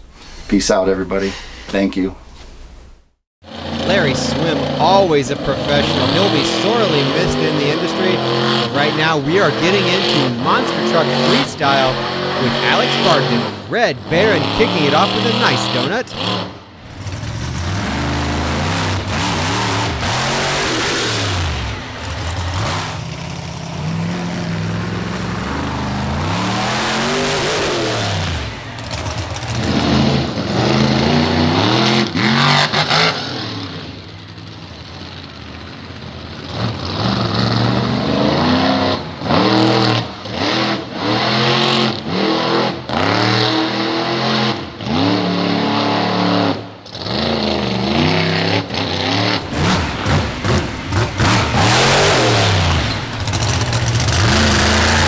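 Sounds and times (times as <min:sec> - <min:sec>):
truck engine revving: 0:03.4 - 0:55.0.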